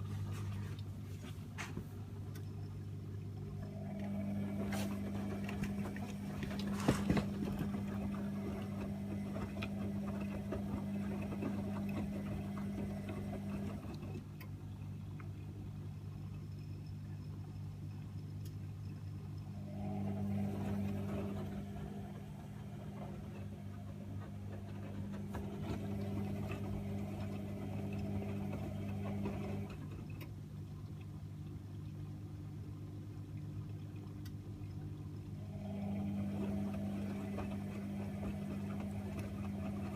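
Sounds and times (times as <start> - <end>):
steady low hum: 0.0 - 39.9
washing machine drum motor humming: 0.0 - 39.9.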